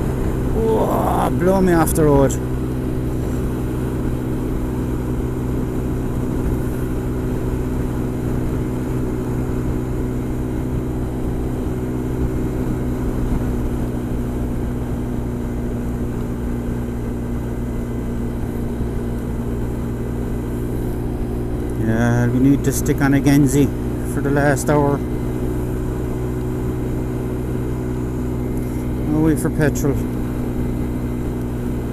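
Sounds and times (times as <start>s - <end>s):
scooter engine droning: 0.0s - 31.9s.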